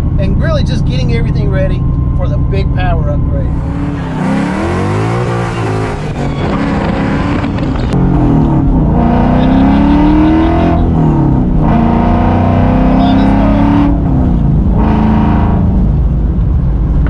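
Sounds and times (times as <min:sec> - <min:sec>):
engine accelerating hard: 0:00.0 - 0:17.0.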